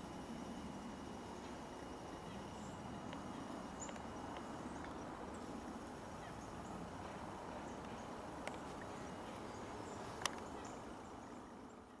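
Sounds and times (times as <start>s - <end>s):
steady low hiss: 0.0s - 12.0s
small birds chirping: 1.2s - 12.0s.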